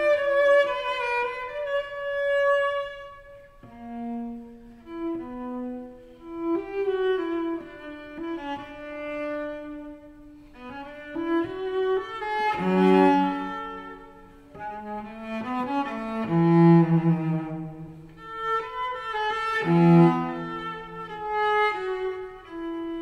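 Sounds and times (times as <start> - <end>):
classical music: 0.0 - 23.0.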